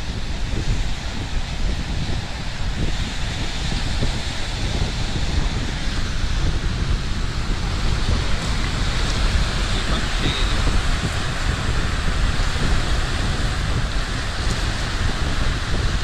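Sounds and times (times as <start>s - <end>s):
waves washing on pebble beach: 0.0s - 16.0s
wind buffeting microphone: 0.0s - 16.0s.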